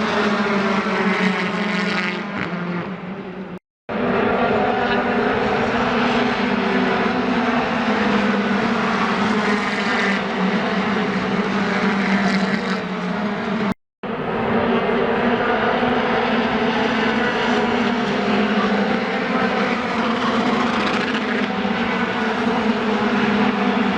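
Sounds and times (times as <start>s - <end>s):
loud engine drone: 0.0s - 23.9s.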